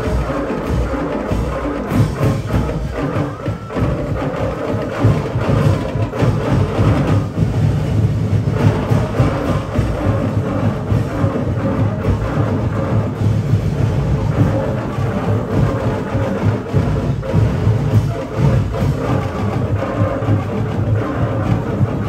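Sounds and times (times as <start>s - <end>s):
heavy drumbeats: 0.0s - 22.0s
percussion band playing: 0.0s - 22.0s.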